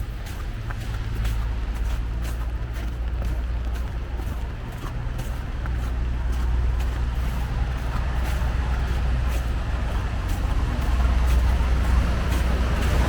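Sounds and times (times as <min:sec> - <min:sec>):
light footsteps: 0:00.0 - 0:13.0
street traffic rumble: 0:00.0 - 0:13.0.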